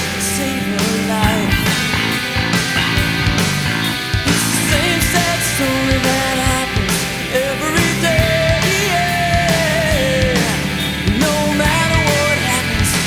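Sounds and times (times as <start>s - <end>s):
bass: 0.0s - 13.0s
sliding lead melody: 0.0s - 13.0s
drum beat: 1.0s - 13.0s.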